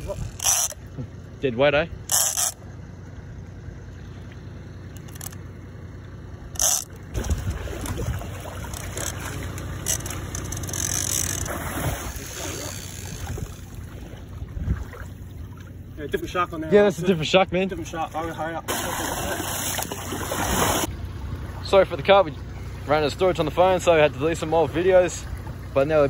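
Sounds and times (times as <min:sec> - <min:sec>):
water scraping and sloshing: 0:00.0 - 0:01.3, 0:02.0 - 0:03.1, 0:03.8 - 0:05.8, 0:06.4 - 0:26.0.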